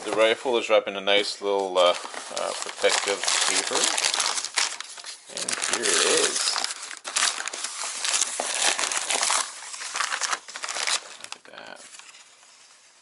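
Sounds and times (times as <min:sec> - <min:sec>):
wrapping paper crinkling: 0:01.5 - 0:13.0.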